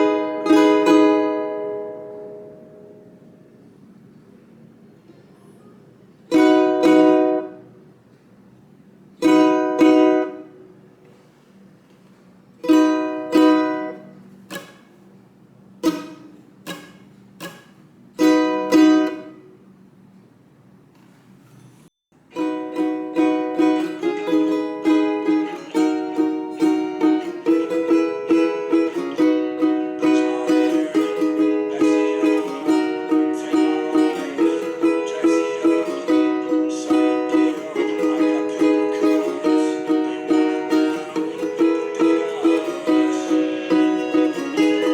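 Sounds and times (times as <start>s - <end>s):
ukulele strumming: 0.0s - 3.6s, 6.3s - 7.8s, 9.2s - 10.9s, 12.6s - 19.7s, 22.2s - 44.9s.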